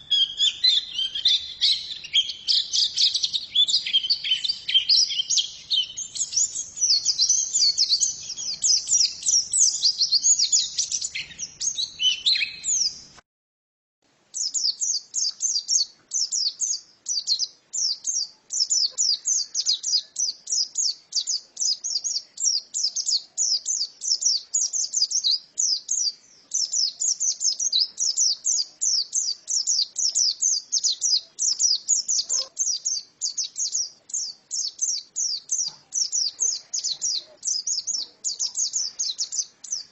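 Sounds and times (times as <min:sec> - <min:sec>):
bird twittering song: 0:00.0 - 0:13.2, 0:14.3 - 0:39.9.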